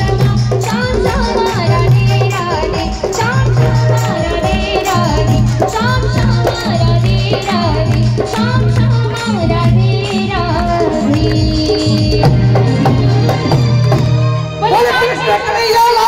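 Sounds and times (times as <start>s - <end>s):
tabla: 0.0s - 16.0s.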